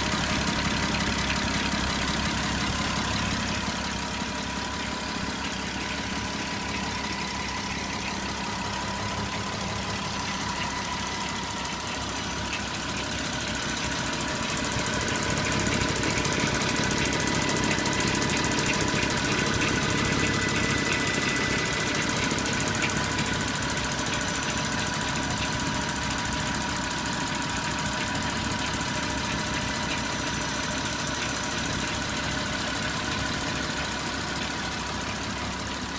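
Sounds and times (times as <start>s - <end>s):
car engine running: 0.0s - 35.9s
rapid mechanical ticking and rattle: 0.0s - 35.9s.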